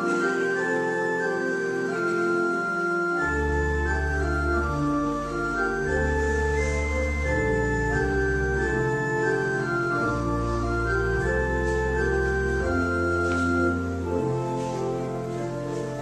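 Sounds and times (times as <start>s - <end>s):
organ playing hymn chords: 0.0s - 16.0s.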